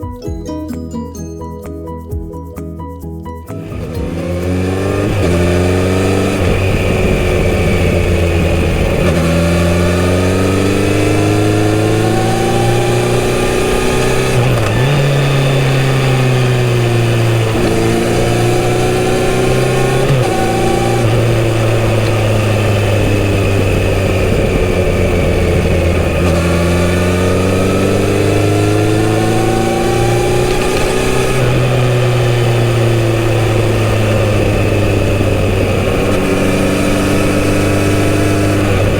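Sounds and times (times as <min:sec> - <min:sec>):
motorcycle engine revving: 0:03.6 - 0:38.9.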